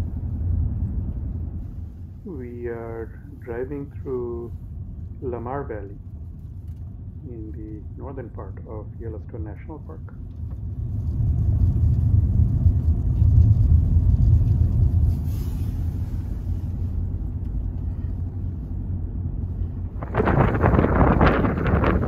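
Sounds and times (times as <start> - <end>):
car road rumble inside cabin: 0.0 - 22.0
wind buffeting microphone: 0.0 - 22.0.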